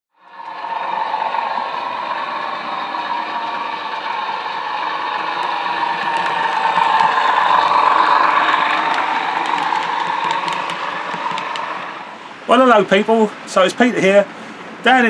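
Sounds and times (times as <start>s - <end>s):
model train running on track: 0.2s - 15.0s.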